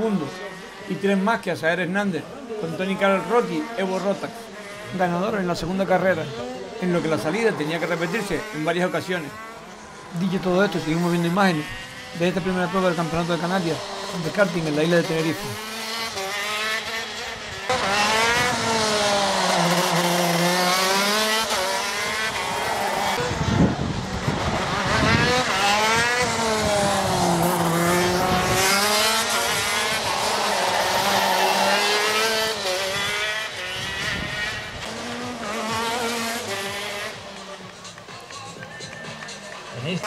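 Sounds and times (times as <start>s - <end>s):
kart engines revving: 0.0s - 40.0s.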